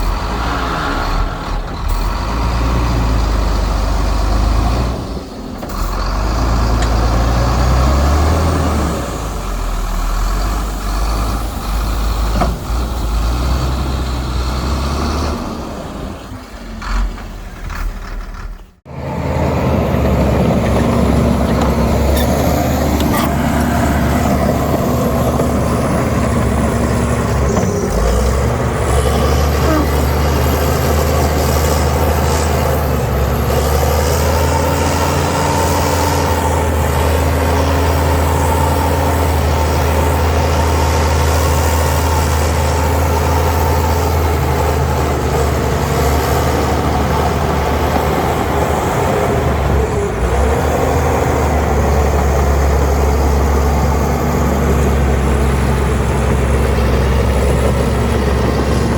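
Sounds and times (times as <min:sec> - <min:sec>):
heavy diesel engine droning: 0:00.0 - 0:58.9.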